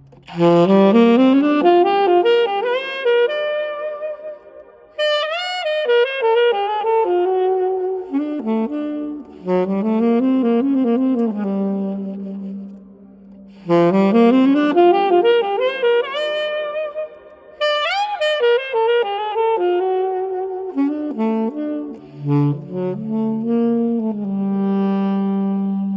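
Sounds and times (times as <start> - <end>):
alto saxophone solo: 0.0 - 25.9.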